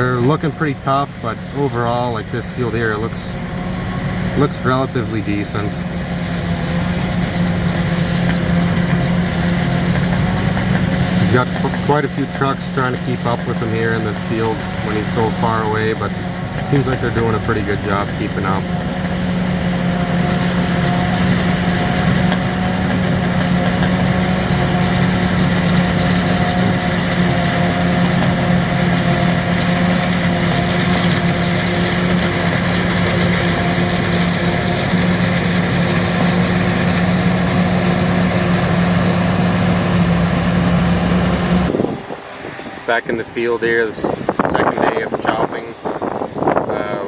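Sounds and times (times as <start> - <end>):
farm machinery engines droning: 0.0 - 47.0.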